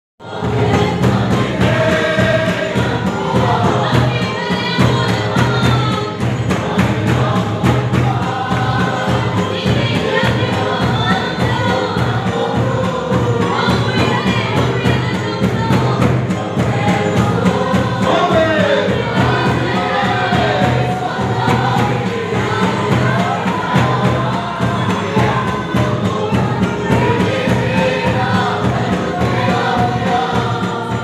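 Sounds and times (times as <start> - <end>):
congregation singing gospel song: 0.2 - 31.0
steady beat and accompaniment: 0.2 - 31.0.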